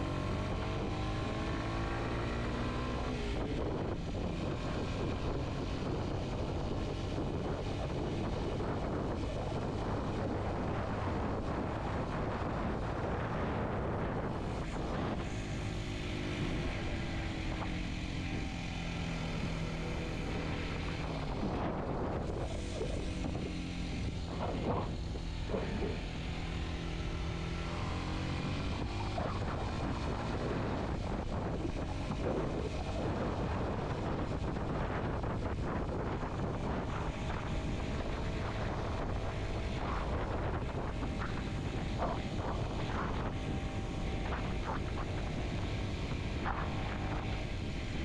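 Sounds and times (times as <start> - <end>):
motorcycle engine running: 0.0 - 48.0
wind buffeting microphone: 0.0 - 48.0.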